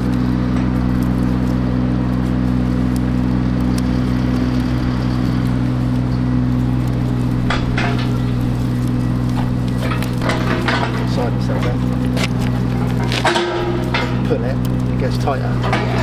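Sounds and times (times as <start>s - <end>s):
insulating tape crackling: 0.0s - 16.0s
steady engine drone: 0.0s - 16.0s.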